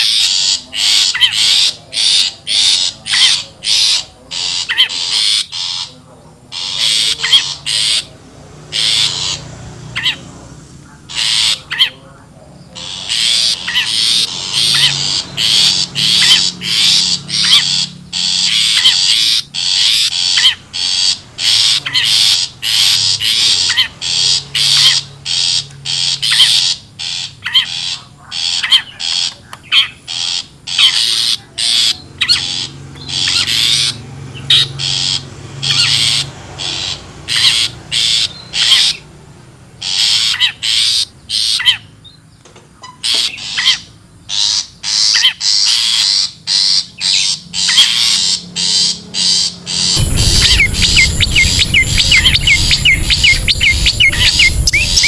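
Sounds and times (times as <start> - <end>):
shrikes calling harshly: 0.0 - 10.2, 12.8 - 39.2, 44.4 - 55.0.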